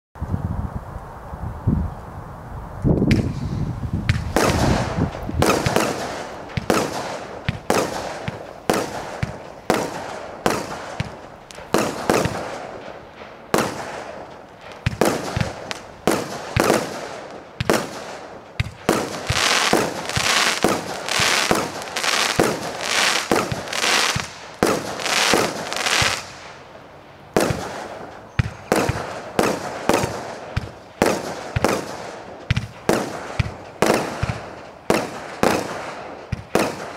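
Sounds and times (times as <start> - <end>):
firework cake shots bursting: 4.1 - 26.4, 27.4 - 36.9.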